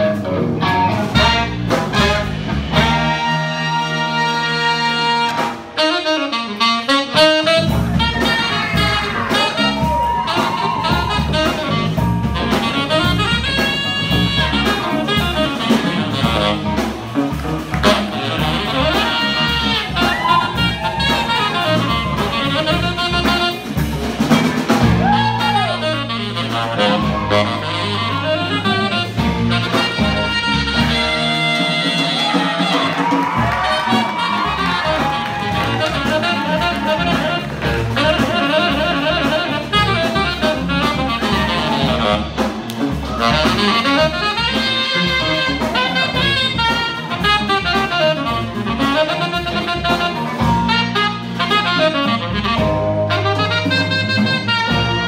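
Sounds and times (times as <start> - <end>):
jazz band playing: 0.0 - 55.0
saxophone melody: 0.0 - 55.0.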